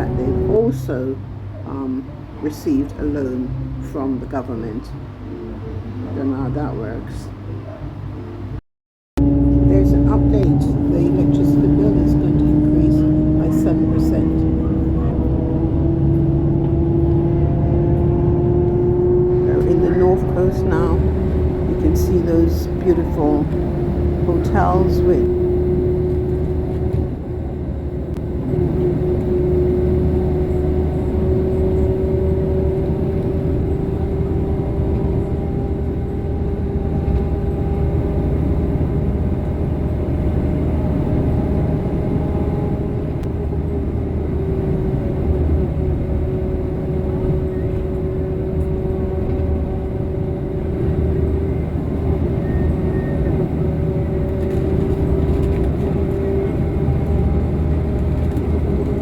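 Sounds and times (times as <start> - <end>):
bus engine drone with whine: 0.0 - 8.6, 9.2 - 59.0
road rumble: 0.0 - 8.6, 9.2 - 59.0.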